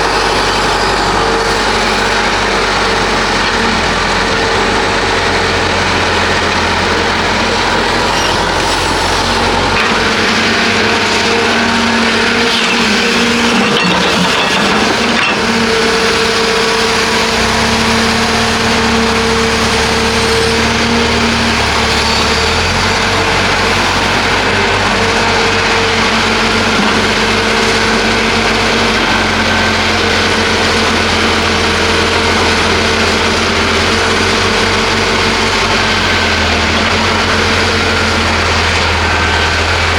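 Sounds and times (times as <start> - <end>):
diesel excavator running: 0.0 - 39.9
hydraulic whine: 0.0 - 39.9.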